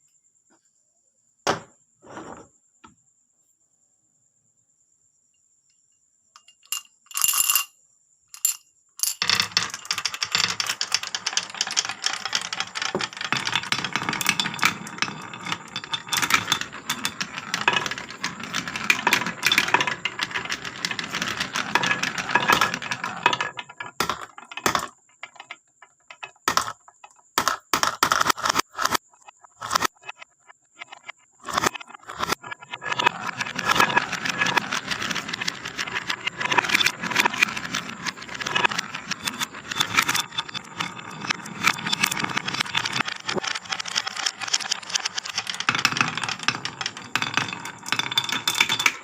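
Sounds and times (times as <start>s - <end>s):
marbles clattering down wooden run: 6.4s - 7.7s, 8.4s - 29.0s, 31.5s - 49.0s.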